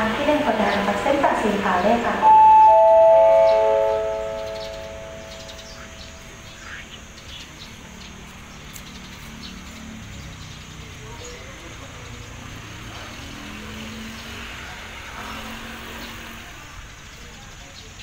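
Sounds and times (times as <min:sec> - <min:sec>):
distant diesel locomotive rumble: 0:00.0 - 0:18.0.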